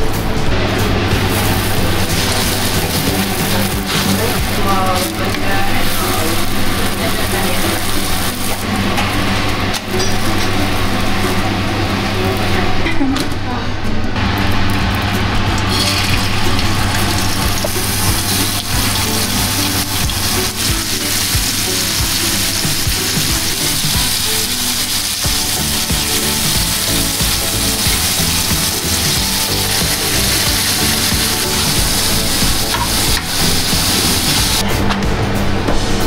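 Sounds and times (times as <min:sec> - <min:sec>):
background music: 0:00.0 - 0:36.0
meat sizzling in oil: 0:01.2 - 0:11.5, 0:15.6 - 0:34.6.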